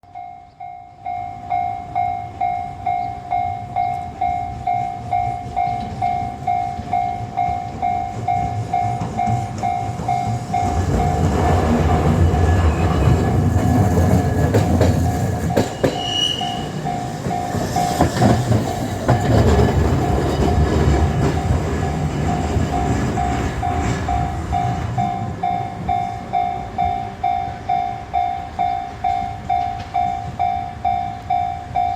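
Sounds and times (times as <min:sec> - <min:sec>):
level-crossing warning bell: 0:00.0 - 0:31.9
tram cars rumbling: 0:00.1 - 0:31.9
wheels clicking over rail joints: 0:03.8 - 0:31.9.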